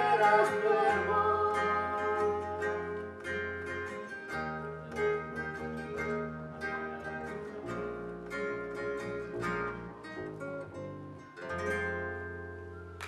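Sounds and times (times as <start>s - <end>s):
picked guitar notes: 0.0s - 13.0s.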